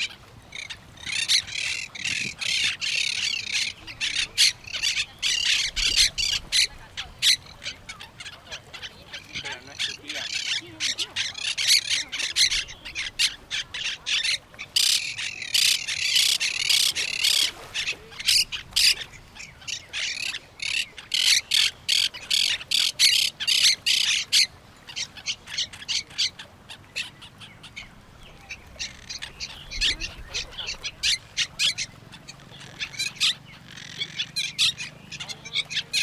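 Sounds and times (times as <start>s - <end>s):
parrots squawking and chattering: 0.0s - 36.0s.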